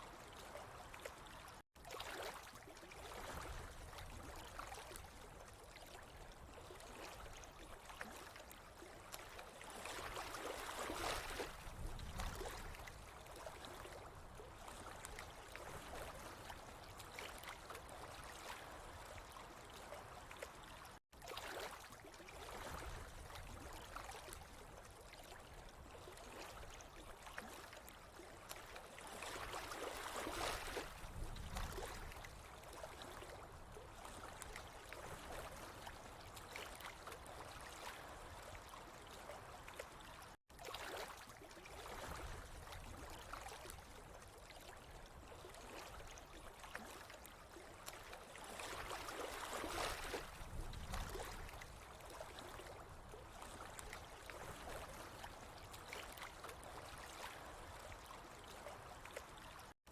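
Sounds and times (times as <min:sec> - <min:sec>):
water trickling and gurgling: 0:00.0 - 0:59.8.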